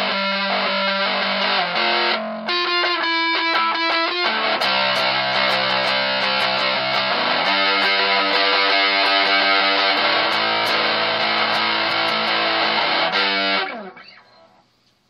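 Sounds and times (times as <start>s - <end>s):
distorted electric guitar chords: 0.0s - 14.5s.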